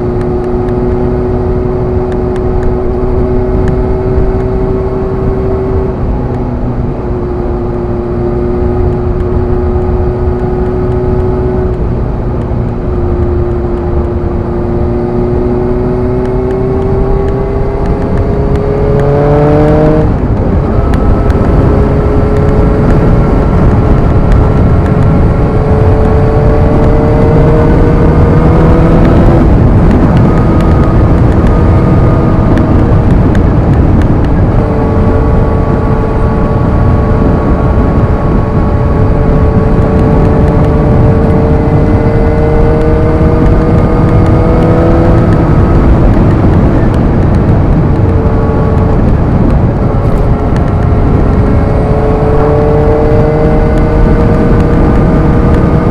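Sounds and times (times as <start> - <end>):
motorcycle engine accelerating: 0.0 - 55.9
wind rumble on microphone: 0.0 - 55.9.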